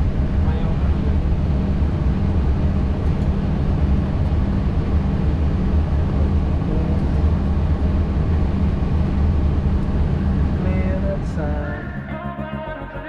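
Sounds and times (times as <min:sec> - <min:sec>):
aircraft cockpit rumble: 0:00.0 - 0:13.0.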